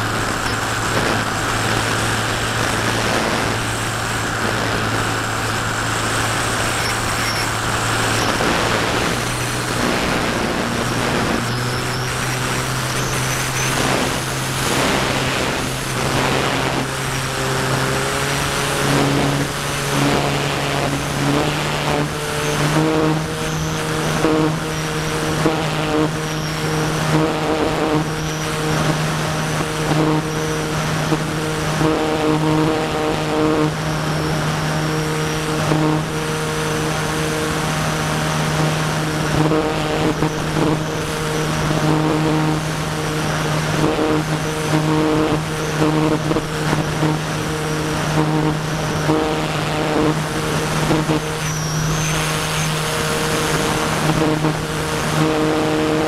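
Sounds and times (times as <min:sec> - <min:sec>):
electric motor and propeller drone: 0:00.0 - 0:56.0
wind on microphone: 0:00.0 - 0:56.0.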